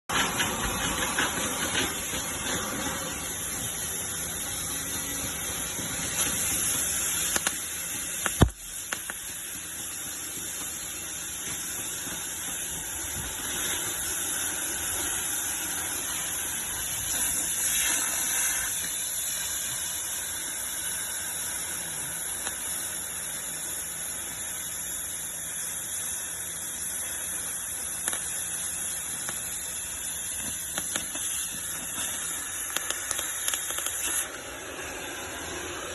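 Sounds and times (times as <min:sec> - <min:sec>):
cutting torch flame hissing: 0:00.1 - 0:35.9.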